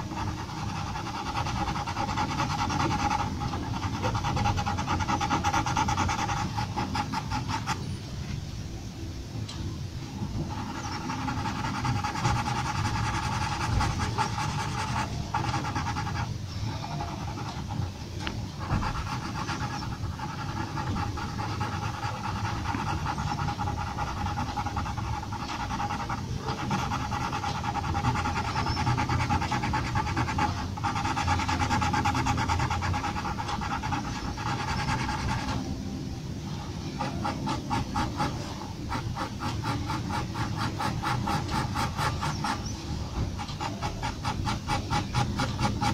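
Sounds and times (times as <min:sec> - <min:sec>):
pencil scratching on paper: 0:00.0 - 0:07.9, 0:10.2 - 0:35.9, 0:36.5 - 0:45.9.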